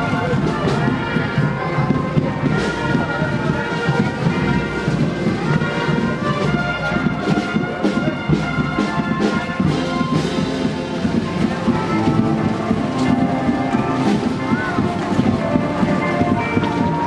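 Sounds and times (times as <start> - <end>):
brass band horns: 0.0 - 17.0
percussion strikes: 0.0 - 17.0.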